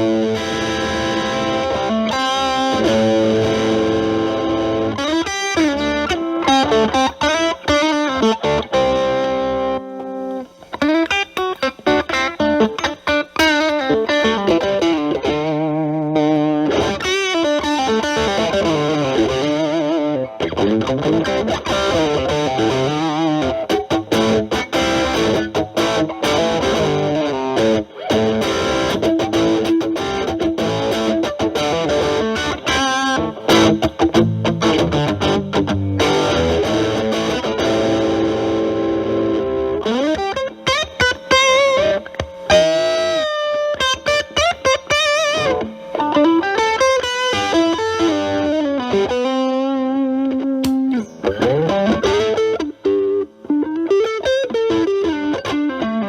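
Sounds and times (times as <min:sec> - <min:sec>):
overdriven electric guitar blues lead: 0:00.0 - 0:56.0.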